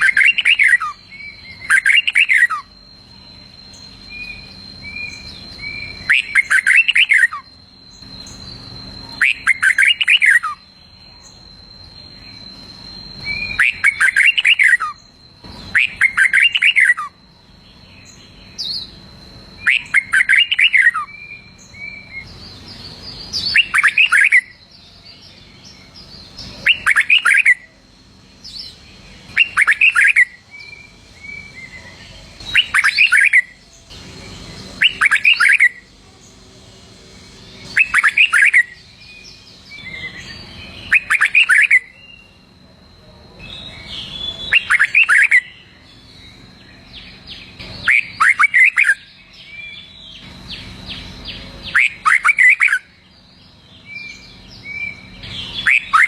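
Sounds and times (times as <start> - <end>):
bird whistled song phrases: 0.0 - 56.0
soft bird calls: 0.0 - 56.0.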